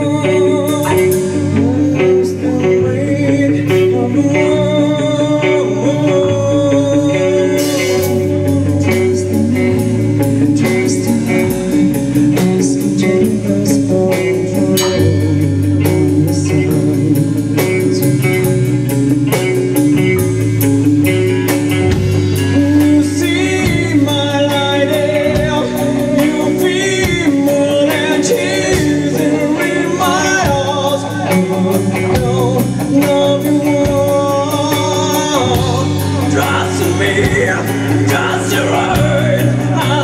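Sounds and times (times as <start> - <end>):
person singing: 0.0 - 20.6, 21.5 - 40.0
bass guitar: 0.0 - 40.0
drums: 0.0 - 40.0
electric guitars: 0.0 - 40.0.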